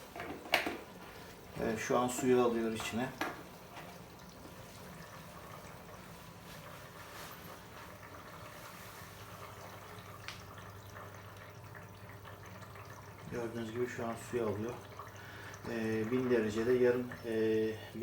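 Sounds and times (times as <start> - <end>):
water trickling into drum: 0.0 - 18.0.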